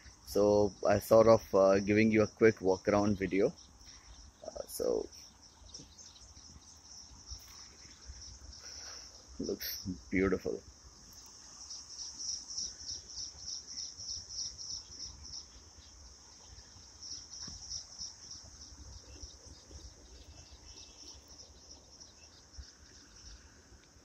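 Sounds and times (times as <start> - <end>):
insect chirping: 0.0 - 24.0.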